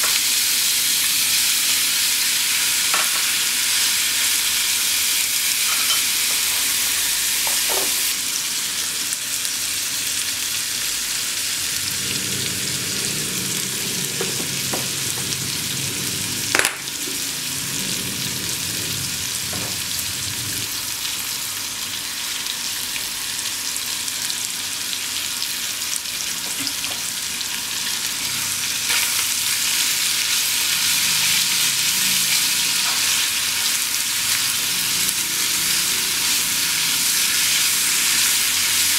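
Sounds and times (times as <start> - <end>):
meat sizzling in a pan: 0.0 - 38.9.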